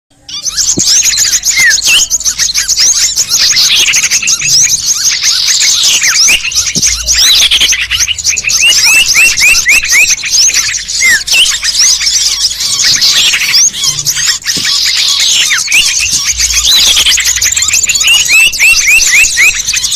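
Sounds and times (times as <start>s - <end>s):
chorus of small birds chirping: 0.1s - 19.9s.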